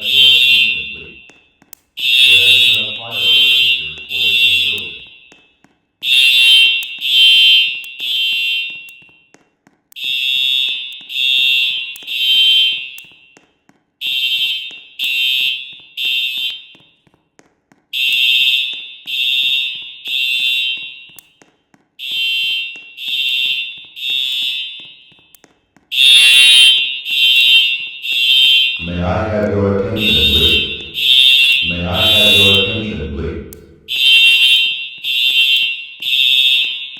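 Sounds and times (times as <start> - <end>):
fire alarm beeping: 0.0 - 9.4, 10.0 - 13.4, 14.0 - 17.1, 17.9 - 21.4, 22.0 - 36.9.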